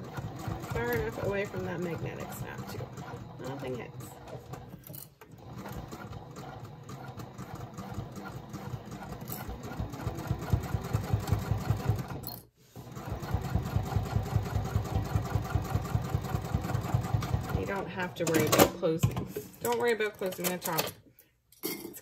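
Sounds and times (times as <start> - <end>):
sewing machine stitching: 0.0 - 18.8.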